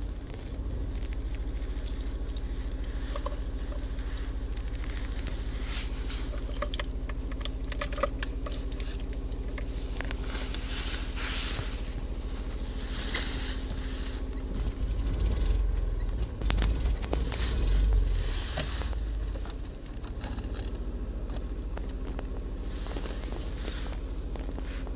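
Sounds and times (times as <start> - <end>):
car engine idling: 0.0 - 24.9
rustling: 0.0 - 24.9.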